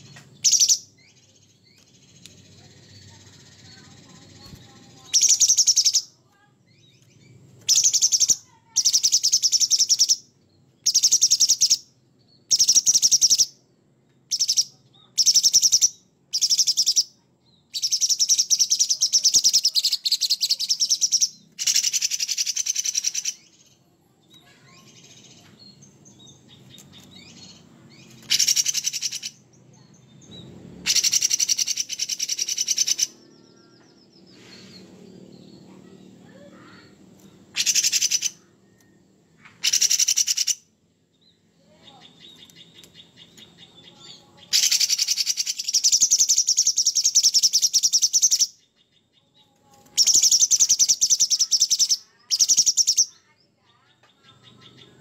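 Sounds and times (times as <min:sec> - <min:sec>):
bird singing harsh chattering phrases: 0:00.0 - 0:55.0.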